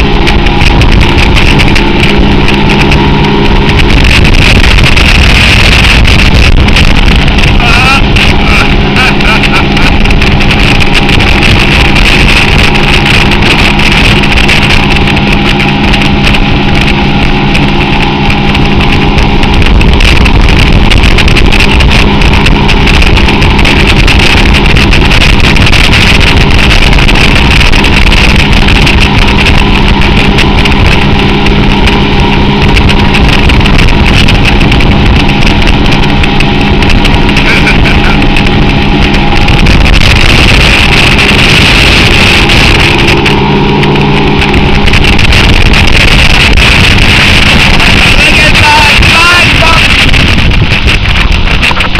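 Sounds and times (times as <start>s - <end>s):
motorboat engine running: 0.0s - 51.9s
rushing water noise: 0.0s - 51.9s.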